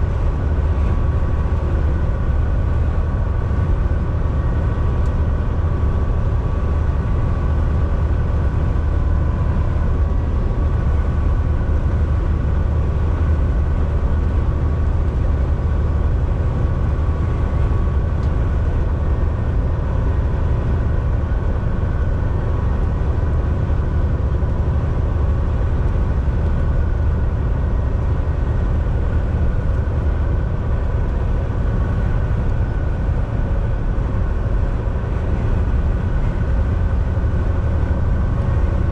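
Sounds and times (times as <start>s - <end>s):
faint steady whine: 0.0s - 38.9s
truck engine and road rumble: 0.0s - 38.9s.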